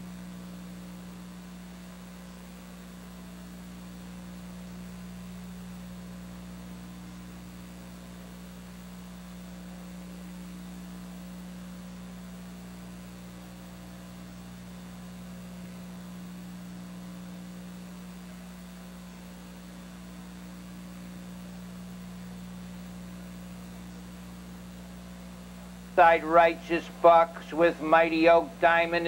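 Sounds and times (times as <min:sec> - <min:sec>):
low electrical mains hum: 0:00.0 - 0:29.0
tape hiss: 0:00.0 - 0:29.0.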